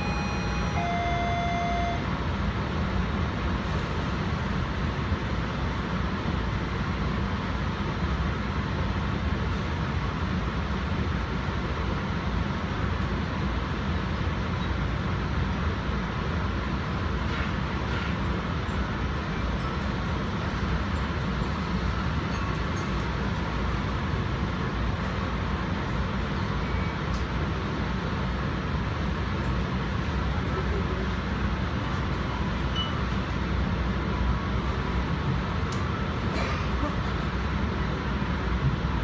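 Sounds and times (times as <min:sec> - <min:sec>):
train rumble and rail noise: 0:00.0 - 0:39.0.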